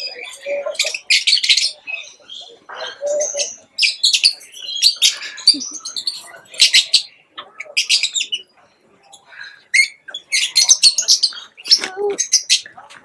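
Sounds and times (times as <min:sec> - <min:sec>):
high-pitched bird calls: 0:00.0 - 0:12.8.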